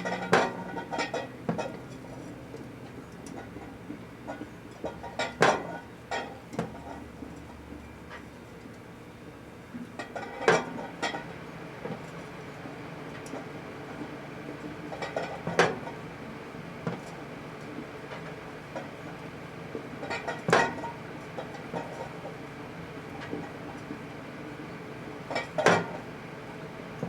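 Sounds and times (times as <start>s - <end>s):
microwave oven humming: 0.0s - 27.0s.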